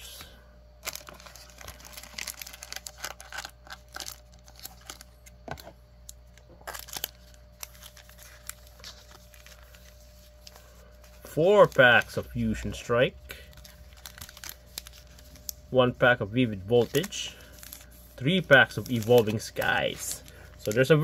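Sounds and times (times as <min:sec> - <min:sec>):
foil wrappers crinkling: 0:00.8 - 0:21.0.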